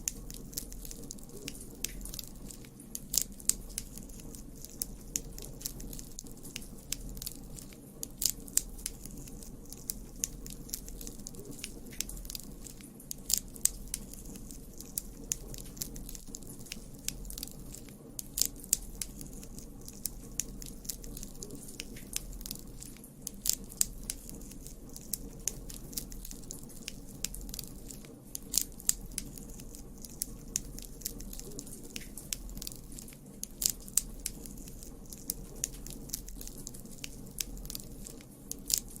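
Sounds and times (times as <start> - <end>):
burning wood crackling and popping: 0.0 - 39.0
rumble of flame: 0.0 - 39.0.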